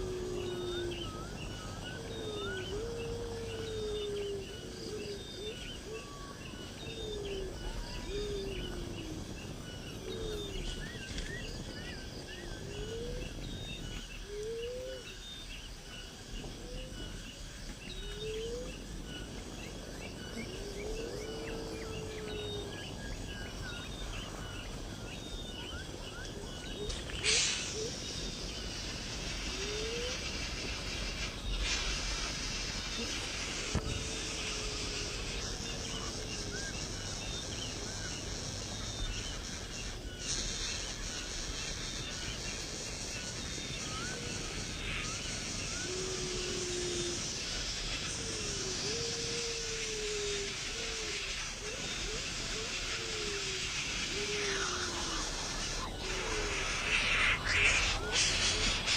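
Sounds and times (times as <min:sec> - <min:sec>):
birds swooping calls: 0:00.0 - 0:58.9.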